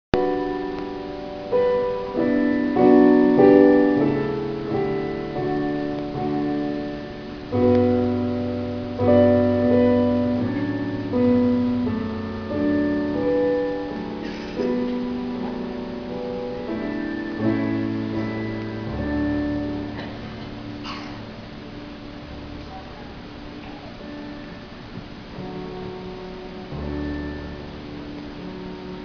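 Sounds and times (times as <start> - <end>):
piano playing slow chords: 0.1 - 29.0.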